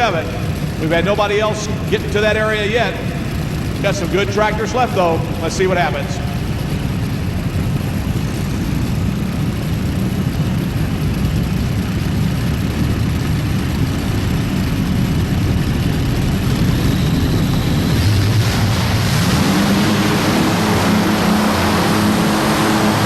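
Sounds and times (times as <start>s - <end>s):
aircraft engines running hard: 0.0s - 23.0s.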